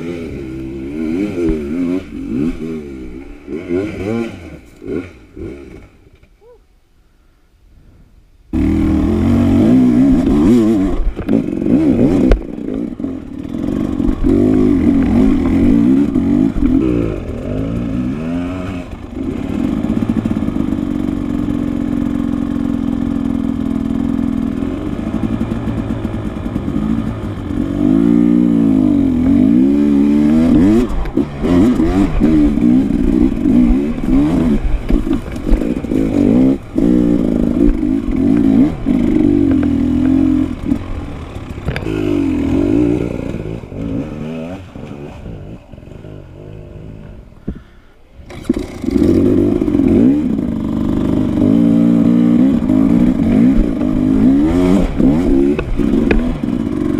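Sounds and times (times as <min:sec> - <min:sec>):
dirt bike engine revving: 0:00.0 - 0:06.1, 0:08.5 - 0:56.9.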